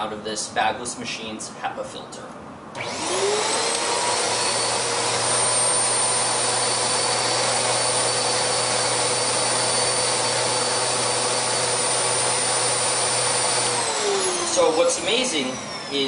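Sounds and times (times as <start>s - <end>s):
vacuum cleaner running: 2.8s - 16.0s.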